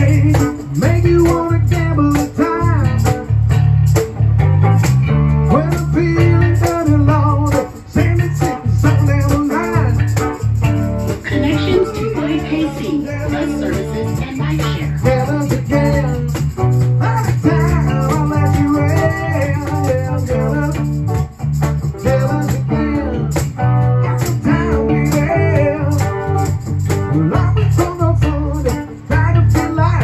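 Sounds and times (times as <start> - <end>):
shaker rattle: 0.0 - 4.2, 5.7 - 30.0
electric bass guitar: 0.0 - 30.0.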